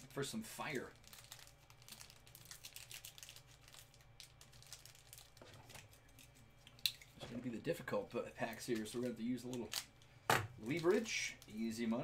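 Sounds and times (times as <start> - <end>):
plastic wrapper crinkling: 0.1 - 7.2, 8.4 - 12.0.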